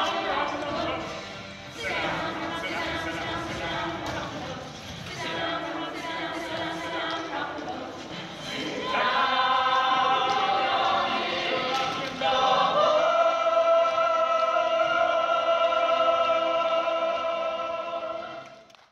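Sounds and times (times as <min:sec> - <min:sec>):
group singing held chords: 0:00.0 - 0:18.7.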